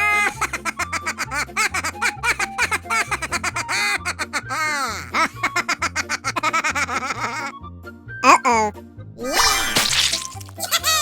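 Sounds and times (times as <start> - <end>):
playful cartoon music: 0.0 - 11.0.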